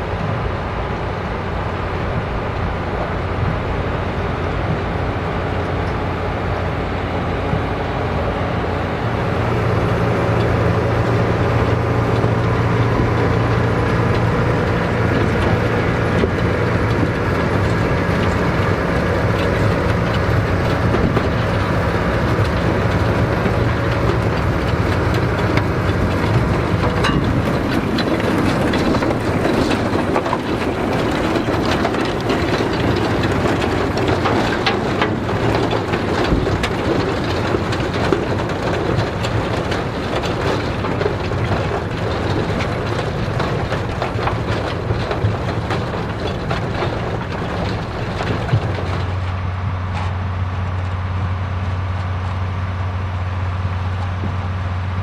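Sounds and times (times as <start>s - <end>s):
field machinery rattling: 0.0s - 55.0s
tractor engine running: 0.0s - 55.0s.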